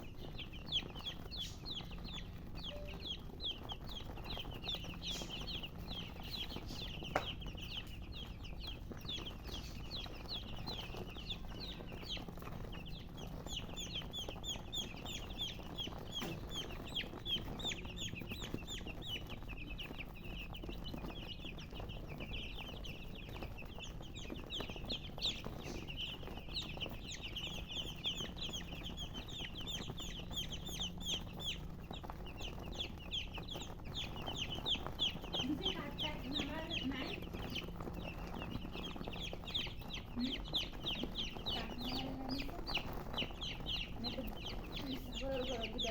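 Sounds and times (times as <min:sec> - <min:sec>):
chicks peeping: 0:00.0 - 0:45.9.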